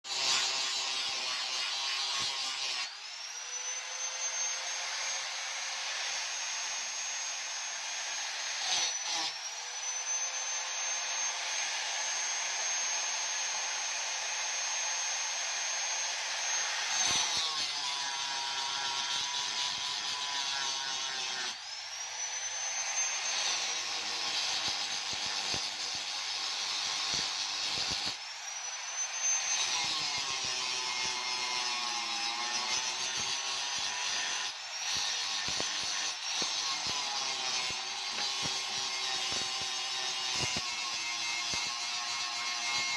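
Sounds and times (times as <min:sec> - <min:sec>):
electric grinder whining: 0:00.1 - 0:42.9.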